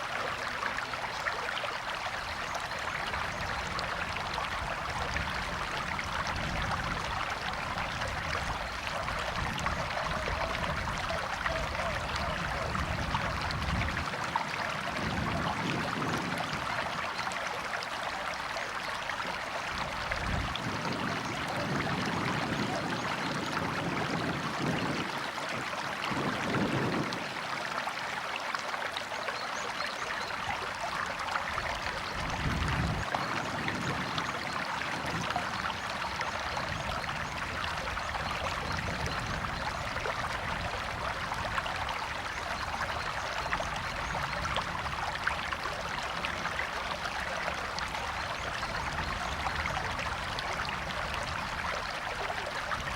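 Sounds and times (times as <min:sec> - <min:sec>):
river water splashing over rocks: 0:00.0 - 0:52.9.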